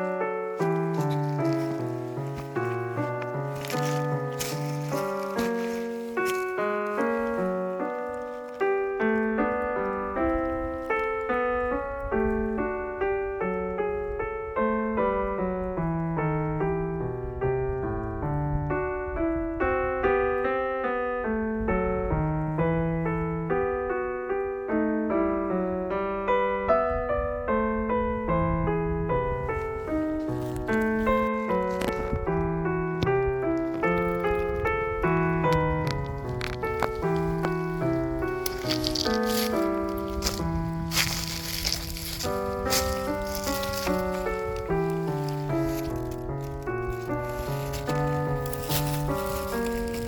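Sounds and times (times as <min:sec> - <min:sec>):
gentle piano melody: 0:00.0 - 0:50.0.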